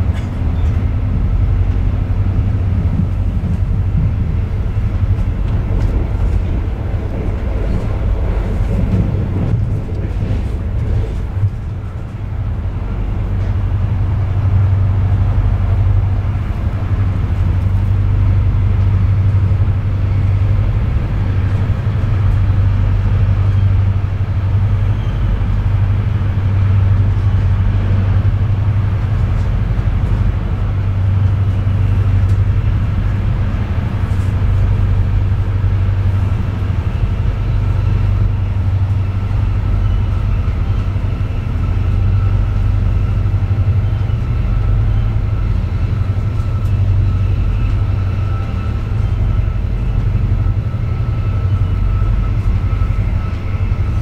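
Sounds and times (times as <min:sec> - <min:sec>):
train rumbling inside coach: 0:00.0 - 0:54.0.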